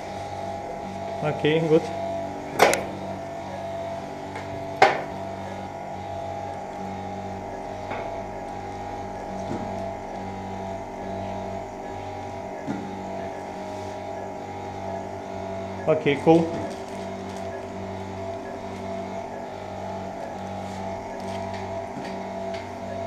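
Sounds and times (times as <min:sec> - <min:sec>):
hospital equipment humming: 0:00.0 - 0:23.0.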